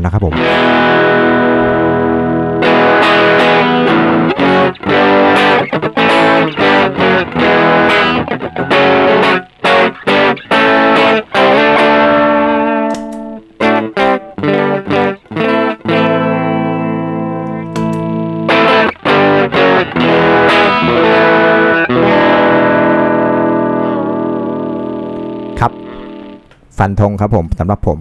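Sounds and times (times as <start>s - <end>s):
overdriven electric guitar: 0.3s - 26.7s.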